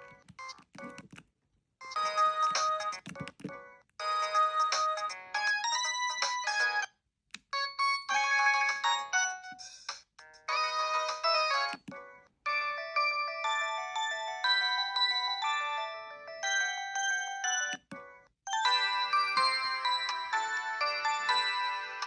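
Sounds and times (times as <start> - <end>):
polyphonic ringtone melody: 1.8 - 6.9, 7.5 - 9.7, 10.4 - 22.0.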